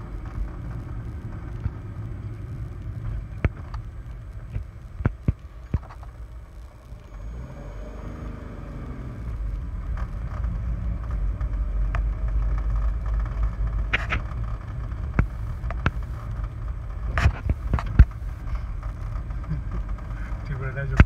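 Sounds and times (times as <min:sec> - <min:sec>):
car rumbling slowly: 0:00.0 - 0:21.0.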